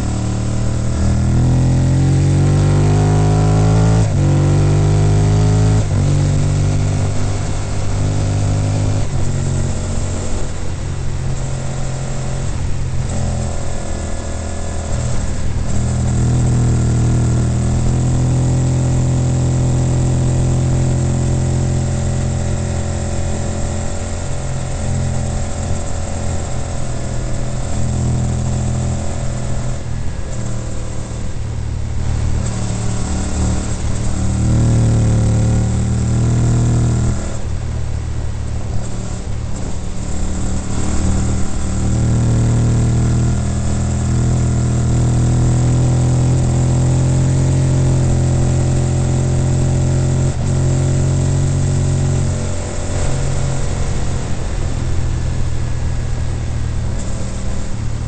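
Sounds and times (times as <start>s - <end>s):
motorcycle engine at road speed: 0.0s - 58.0s.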